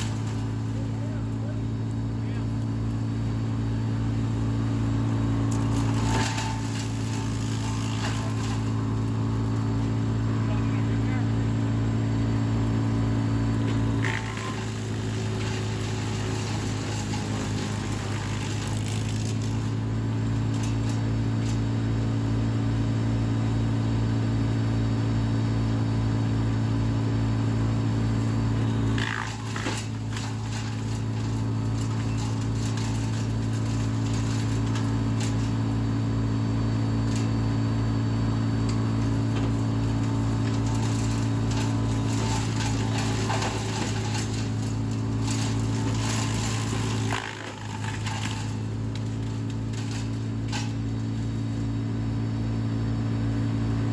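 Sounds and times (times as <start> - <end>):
wood chipper humming: 0.0 - 53.9.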